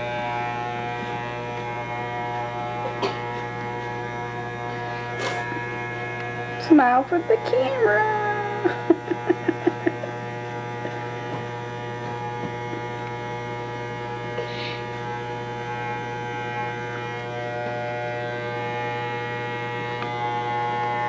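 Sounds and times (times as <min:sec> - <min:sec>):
electric hair clippers buzzing: 0:00.0 - 0:21.0.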